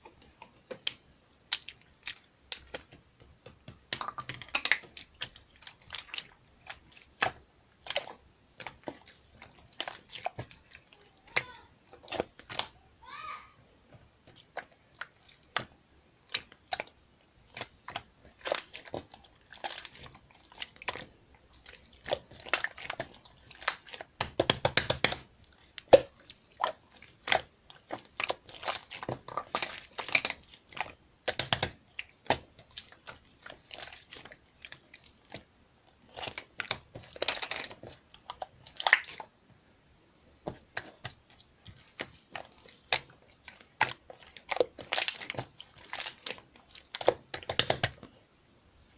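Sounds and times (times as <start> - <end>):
slime squishing and popping: 0.6 - 12.7, 14.3 - 39.3, 40.4 - 48.1.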